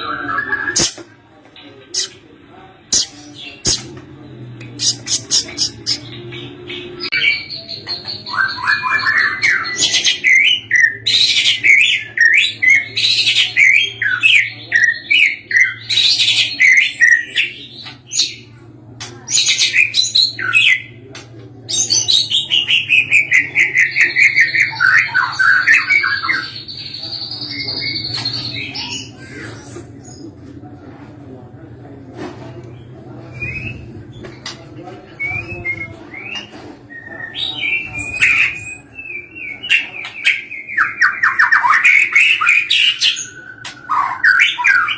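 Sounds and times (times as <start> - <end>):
bird singing varied song: 0.0 - 30.8, 32.6 - 44.9.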